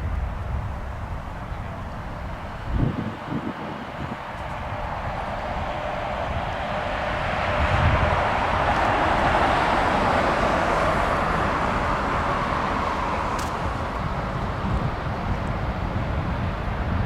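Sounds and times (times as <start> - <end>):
jet engines rushing rumble: 0.0 - 17.0.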